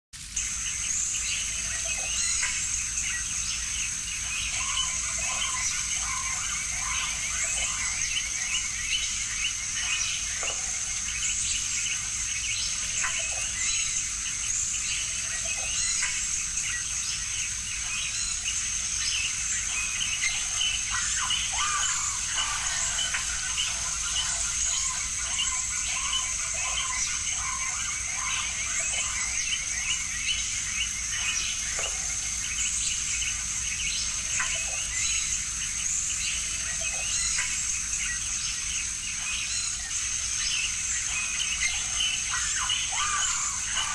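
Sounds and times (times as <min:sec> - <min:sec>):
high insect trill: 0:00.4 - 0:43.9.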